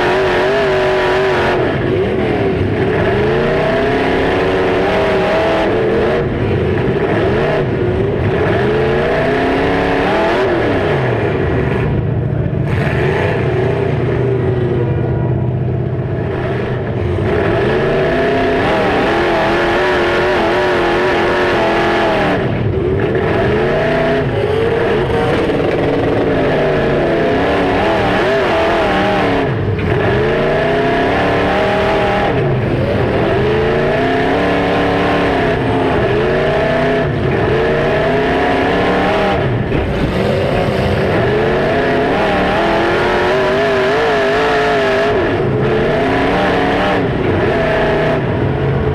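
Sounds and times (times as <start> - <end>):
car engine revving hard: 0.0 - 48.9.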